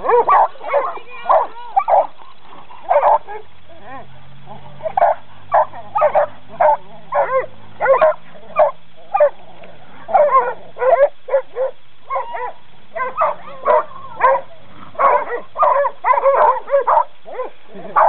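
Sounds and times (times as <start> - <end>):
dogs barking excitedly: 0.0 - 18.0.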